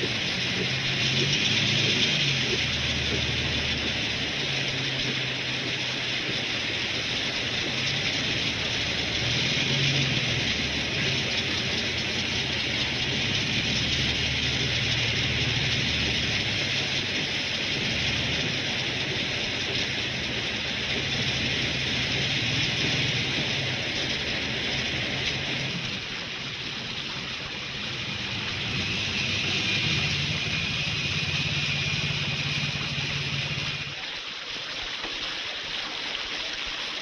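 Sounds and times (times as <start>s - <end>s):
car engine running: 0.0s - 34.0s
heavy rain on a car: 0.0s - 34.0s.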